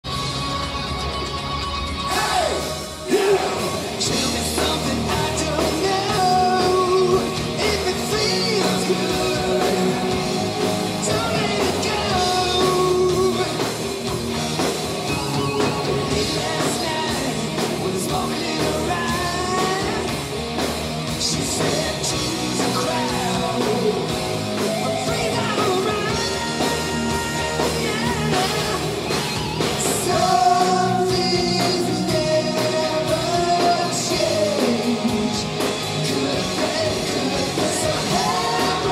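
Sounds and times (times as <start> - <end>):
live hard rock band: 0.0 - 38.9
man singing: 2.1 - 14.0, 15.0 - 20.4, 21.1 - 38.9.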